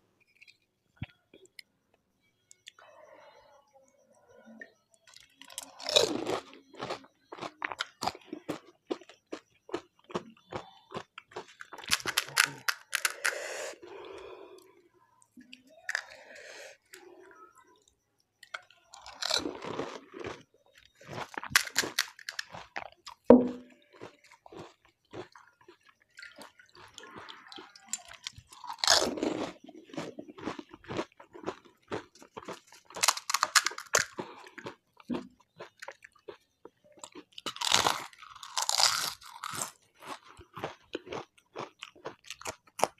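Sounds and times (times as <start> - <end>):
crisp shells crunching when chewed: 5.1 - 14.2, 15.5 - 16.3, 18.4 - 42.9.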